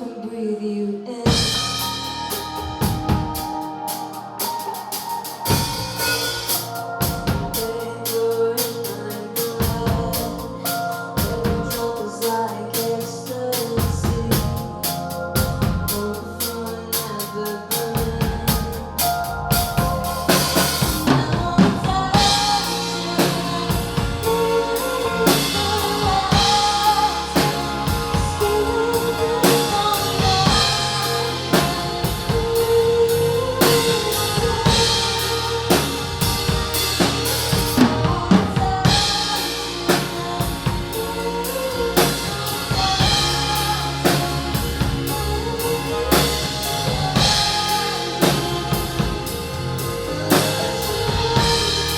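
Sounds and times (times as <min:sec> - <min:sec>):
gliding melodic line: 0:00.0 - 0:51.9
drum kit beat: 0:01.3 - 0:51.9.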